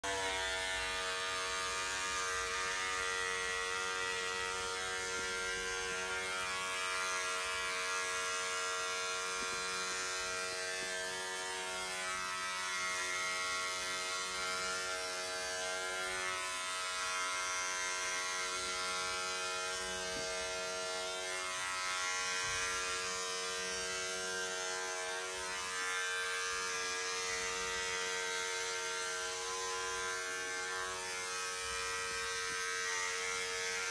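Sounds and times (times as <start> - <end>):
electric shaver humming: 0.0 - 33.9.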